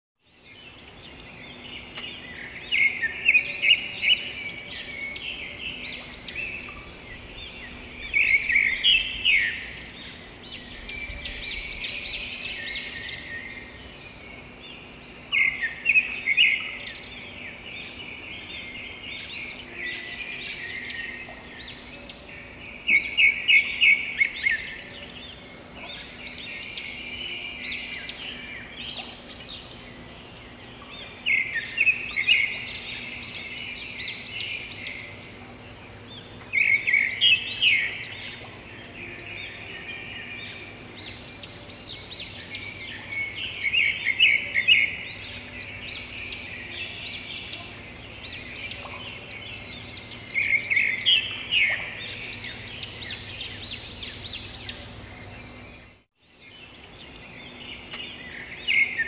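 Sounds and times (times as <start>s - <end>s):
songbirds singing: 0.2s - 59.0s.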